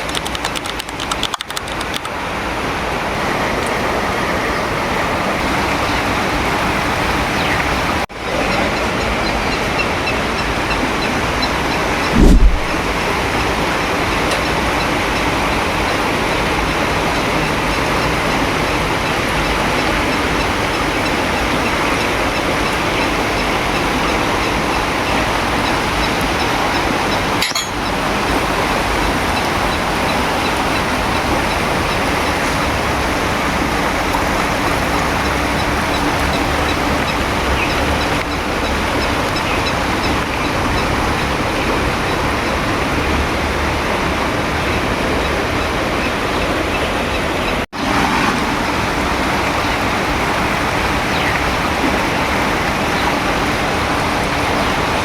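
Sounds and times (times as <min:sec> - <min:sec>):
heavy rain falling: 0:00.0 - 0:46.7, 0:47.7 - 0:55.0.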